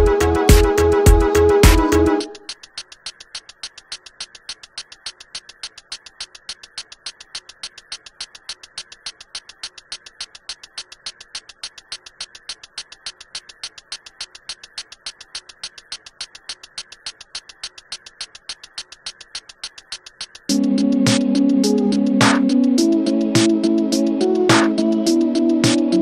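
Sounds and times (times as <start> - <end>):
fast even clicking: 1.6 - 22.7.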